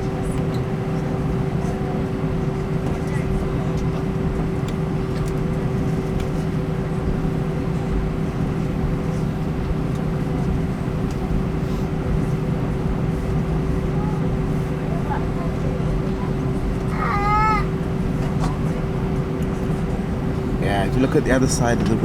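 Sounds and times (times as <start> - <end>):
aircraft cabin engine hum: 0.0 - 22.0.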